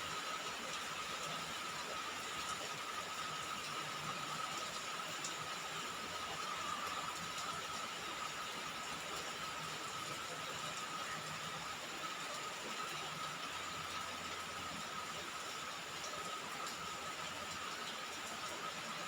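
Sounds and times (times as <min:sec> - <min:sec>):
rain on a roof: 0:00.0 - 0:19.0.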